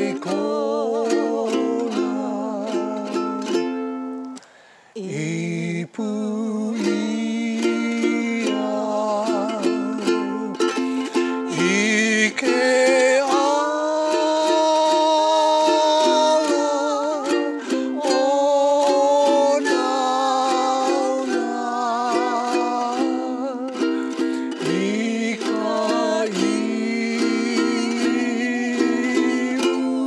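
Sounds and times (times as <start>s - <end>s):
strummed ukulele: 0.0s - 4.5s, 5.6s - 30.0s
man and woman singing: 0.0s - 30.0s.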